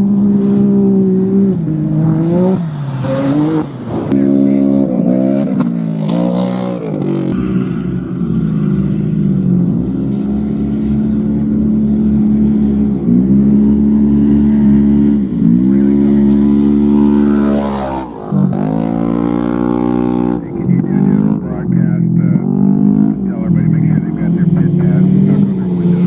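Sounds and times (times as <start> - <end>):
race vehicle engine revving: 0.0 - 26.0.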